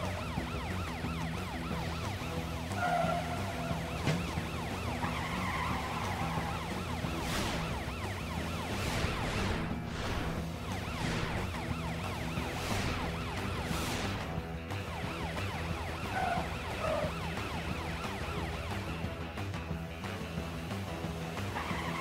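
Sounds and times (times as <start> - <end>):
police siren: 0.0 - 19.3, 21.5 - 22.0
background music: 0.0 - 22.0.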